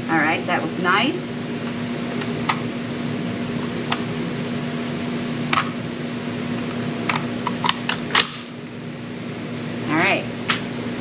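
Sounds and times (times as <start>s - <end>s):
fan-like mechanical hum: 0.0s - 11.0s.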